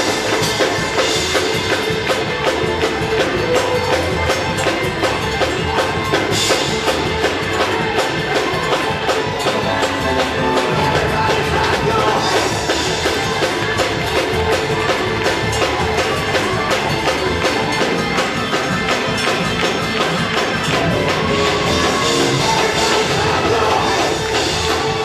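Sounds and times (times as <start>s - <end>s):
band playing praise music: 0.0s - 25.0s
driving percussion beat: 0.0s - 25.0s.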